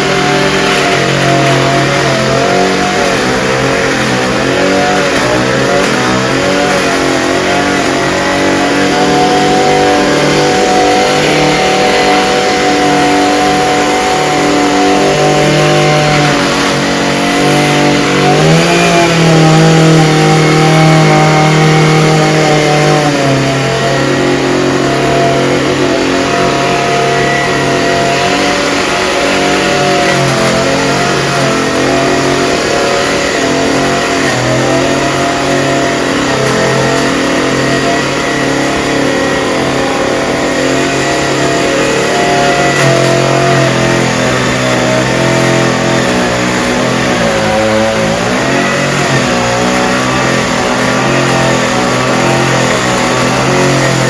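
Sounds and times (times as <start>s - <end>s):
spraying machine engine running: 0.0s - 54.0s.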